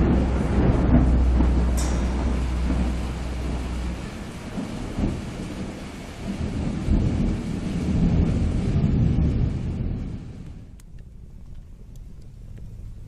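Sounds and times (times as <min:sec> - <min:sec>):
low steady drone: 0:00.0 - 0:13.0
rain-like hiss: 0:00.0 - 0:13.0
thunder-like low rumbling: 0:00.0 - 0:13.0.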